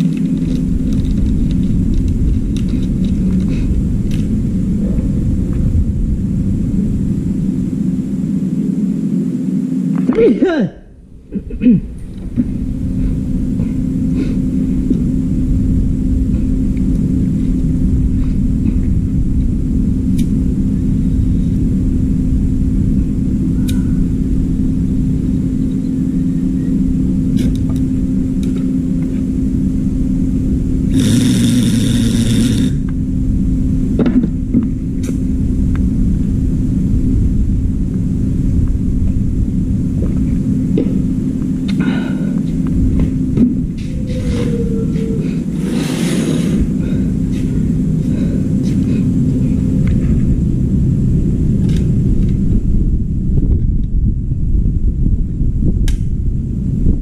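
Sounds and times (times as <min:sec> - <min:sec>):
constant hum: 0:00.0 - 0:57.0
low rumble: 0:00.0 - 0:57.0.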